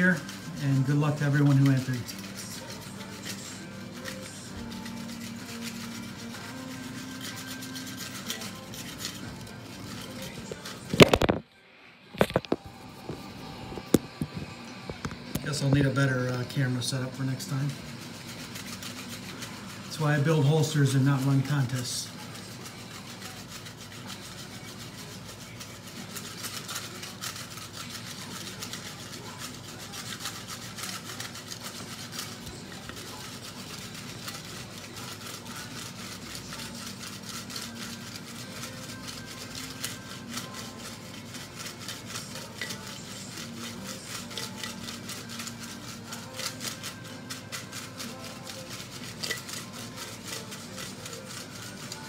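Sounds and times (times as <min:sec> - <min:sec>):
paper slips rustling in a bowl: 0:00.0 - 0:11.4, 0:15.2 - 0:52.0.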